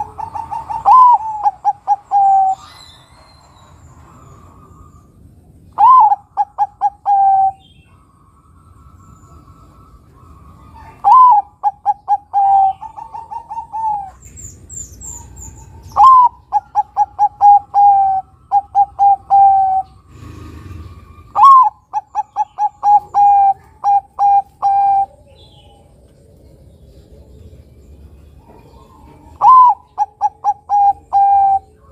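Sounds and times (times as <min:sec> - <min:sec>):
dove cooing: 0:00.0 - 0:02.9, 0:05.8 - 0:08.1, 0:09.3 - 0:26.2, 0:28.0 - 0:31.9
small bird chirping: 0:00.0 - 0:31.9.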